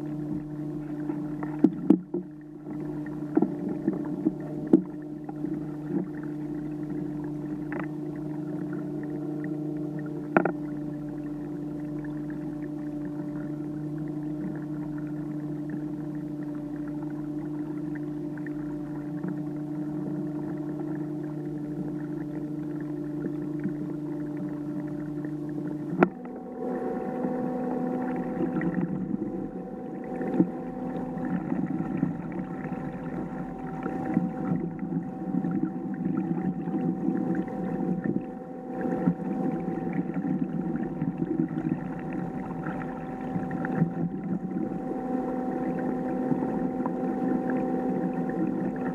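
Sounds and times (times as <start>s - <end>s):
electric trolling motor humming: 0.0s - 48.9s.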